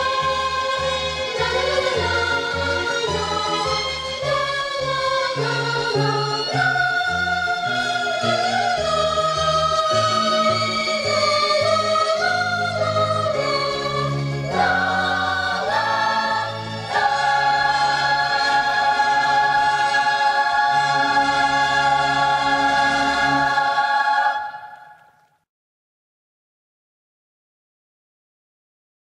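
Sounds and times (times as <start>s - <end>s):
choir singing over orchestra: 0.0s - 25.1s.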